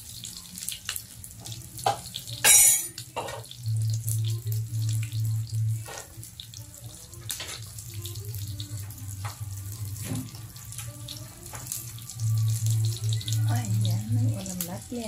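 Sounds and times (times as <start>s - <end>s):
meat sizzling in a grill pan: 0.0s - 15.0s.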